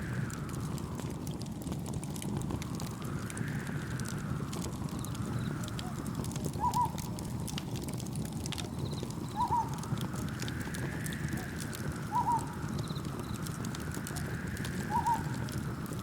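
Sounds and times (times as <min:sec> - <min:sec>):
wood crackling and popping: 0:00.0 - 0:16.0.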